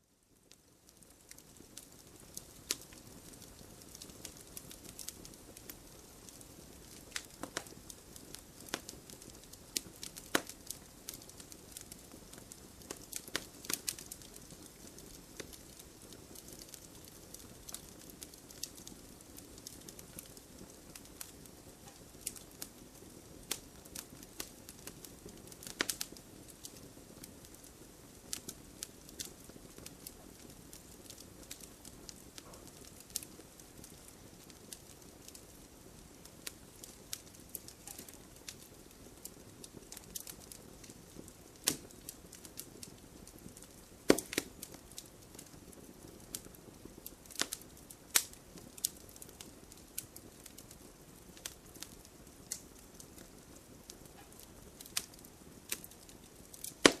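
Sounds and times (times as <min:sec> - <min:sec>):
campfire crackling and popping: 0:00.3 - 0:57.0.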